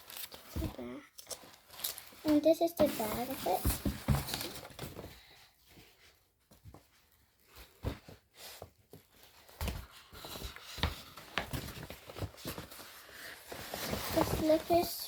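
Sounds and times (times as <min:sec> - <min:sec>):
items knocking and rustling: 0:00.0 - 0:15.0.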